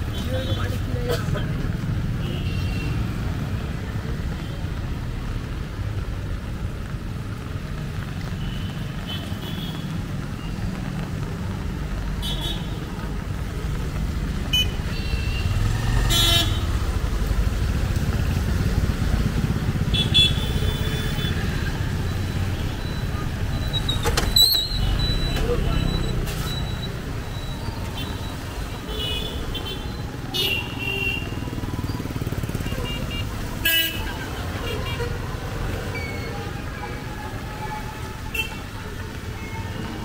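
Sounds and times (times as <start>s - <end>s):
traffic engine rumble: 0.0s - 40.0s
vehicles passing on wet road: 0.0s - 40.0s.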